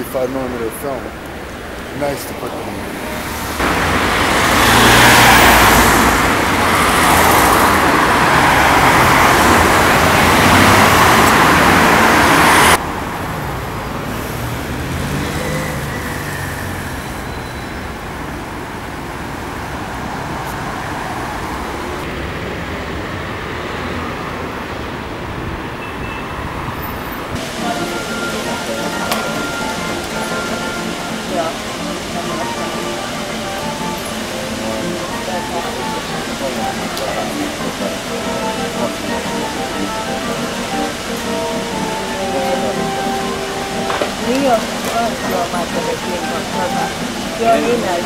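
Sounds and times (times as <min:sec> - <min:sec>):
loud road traffic rush: 0:00.0 - 0:48.0
quiet traffic with engine hum: 0:00.0 - 0:48.0.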